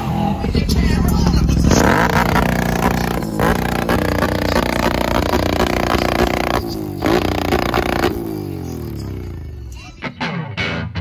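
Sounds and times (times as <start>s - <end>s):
atv engine revving: 0.0s - 9.8s
loud music: 0.0s - 11.0s.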